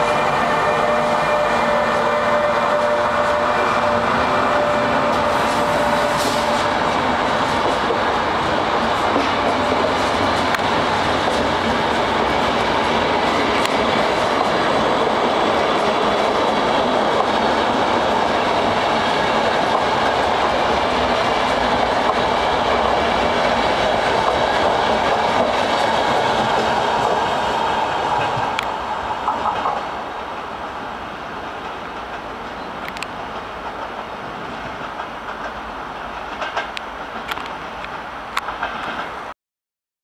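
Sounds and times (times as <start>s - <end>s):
train wheels running on track: 0.0s - 39.3s.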